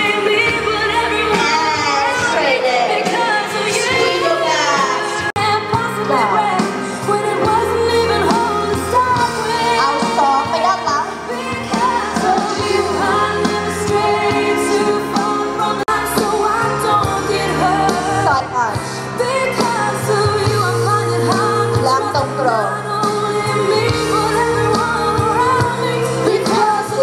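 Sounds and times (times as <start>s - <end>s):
pop song with singer: 0.0s - 27.0s.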